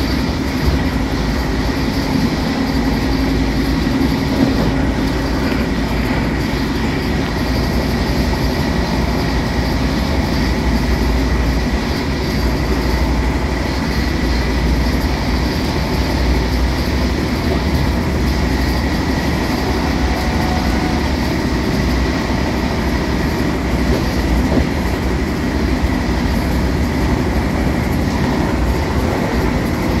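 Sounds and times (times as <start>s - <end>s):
wheels rumbling on rail: 0.0s - 30.0s.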